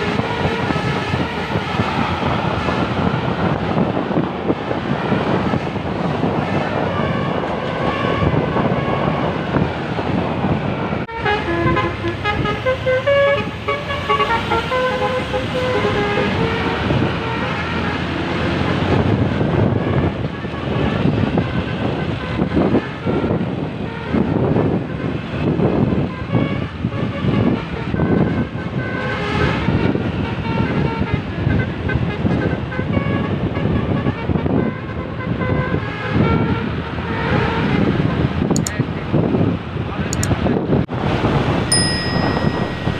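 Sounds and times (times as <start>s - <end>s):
multi-tone bus horn playing a tune: 0.0s - 38.4s, 41.8s - 42.9s
road and traffic noise: 0.0s - 42.9s.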